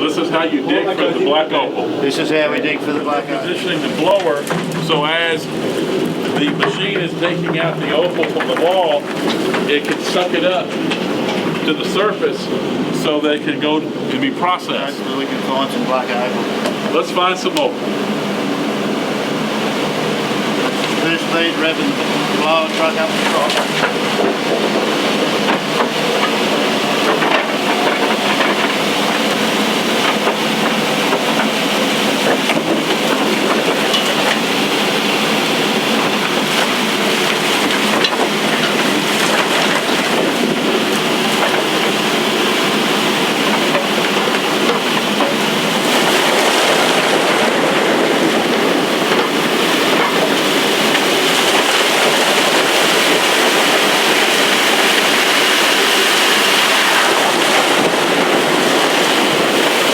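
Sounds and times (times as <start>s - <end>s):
digging machine running: 0.0s - 59.9s.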